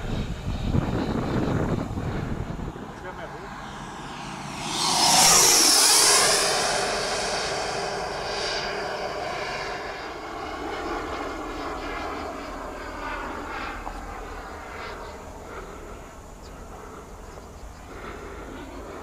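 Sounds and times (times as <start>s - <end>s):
model jet fan whine passing: 0.0s - 19.0s.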